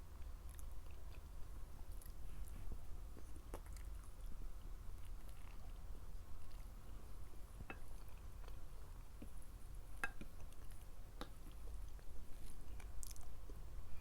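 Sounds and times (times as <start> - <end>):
chewing food: 0.1 - 13.7.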